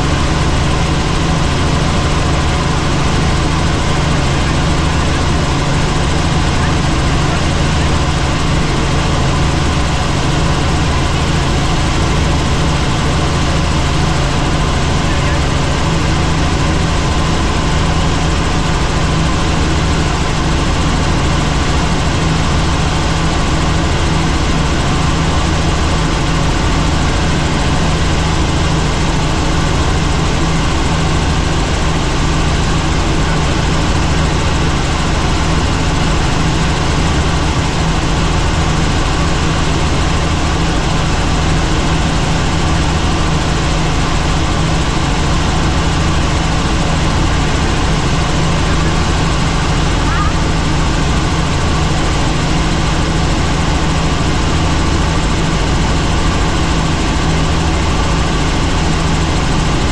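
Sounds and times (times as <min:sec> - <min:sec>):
helicopter turbine and rotor drone: 0:00.0 - 0:59.9.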